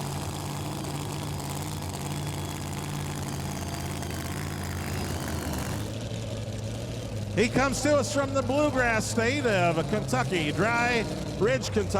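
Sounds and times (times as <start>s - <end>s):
truck engine idling: 0.0s - 11.9s.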